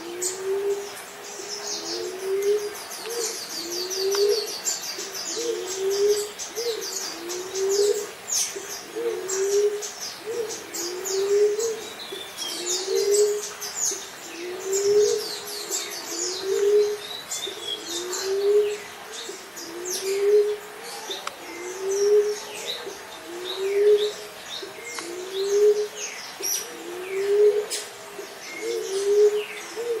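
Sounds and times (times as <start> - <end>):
dove cooing: 0.0 - 30.0
small birds chirping: 0.0 - 30.0.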